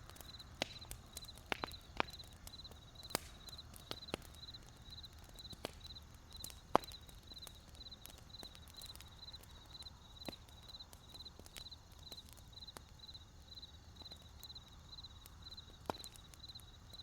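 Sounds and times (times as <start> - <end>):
campfire crackling and popping: 0.0 - 17.0
cricket chirping: 0.0 - 17.0.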